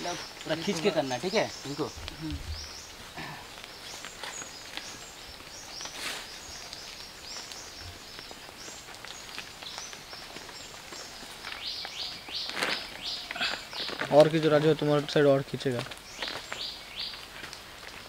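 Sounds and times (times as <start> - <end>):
footsteps on leaf litter: 0.0 - 18.0.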